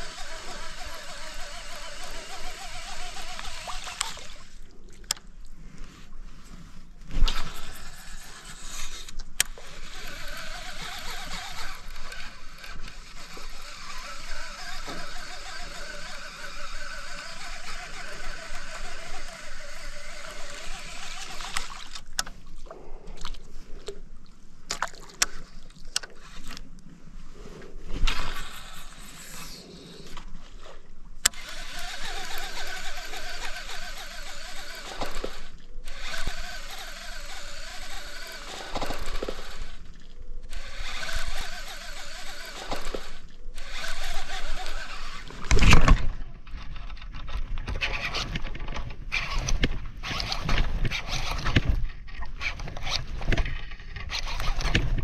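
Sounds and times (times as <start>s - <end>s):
reel clicks: 0.0s - 5.5s, 7.1s - 24.0s, 24.7s - 26.8s, 31.2s - 55.0s
fishing reel handling rustle: 0.0s - 22.6s, 25.1s - 26.9s, 27.5s - 55.0s
water sounds: 0.0s - 26.9s, 28.0s - 55.0s.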